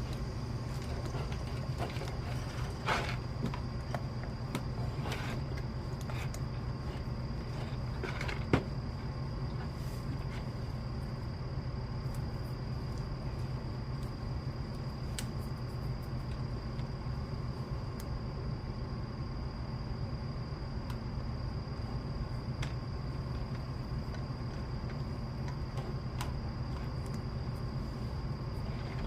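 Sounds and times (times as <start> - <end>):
faint high-pitched whine: 0.0 - 29.0.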